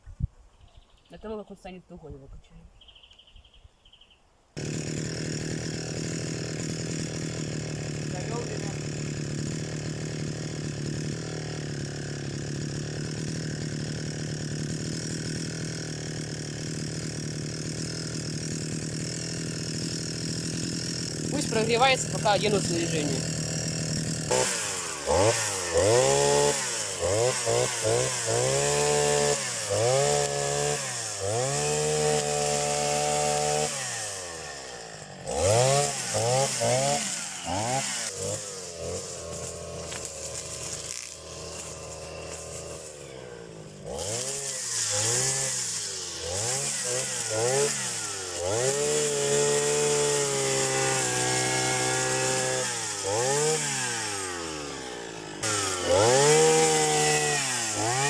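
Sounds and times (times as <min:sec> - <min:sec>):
grass trimmer engine revving: 0:04.6 - 0:58.0.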